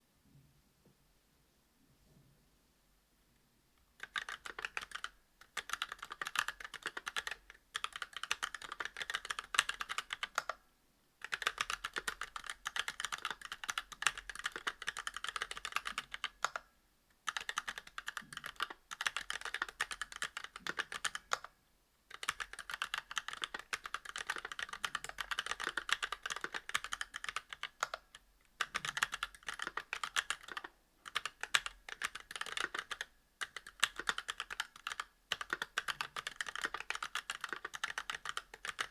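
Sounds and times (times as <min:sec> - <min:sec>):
mechanical keyboard typing: 0:04.0 - 0:10.6, 0:11.2 - 0:16.7, 0:17.3 - 0:21.5, 0:22.1 - 0:38.9.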